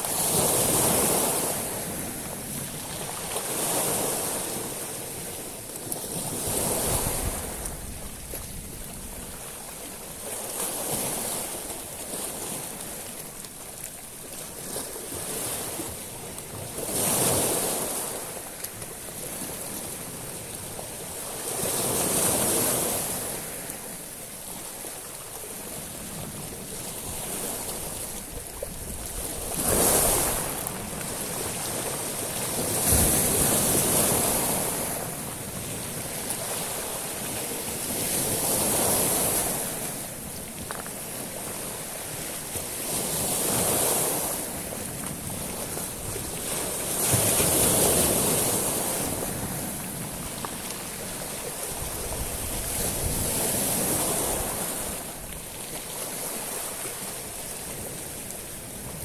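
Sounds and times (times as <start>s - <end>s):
waves washing over shingle: 0.0s - 59.0s.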